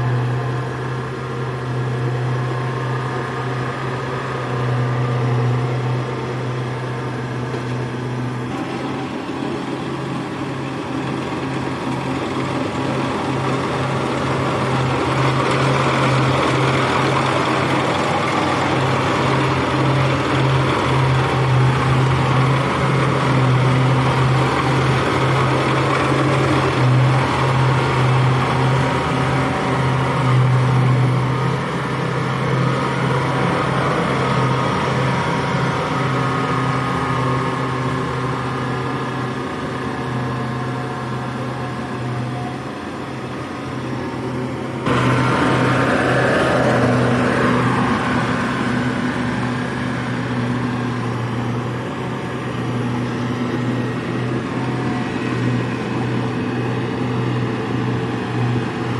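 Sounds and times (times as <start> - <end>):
harvesting machine engine running: 0.0 - 58.9.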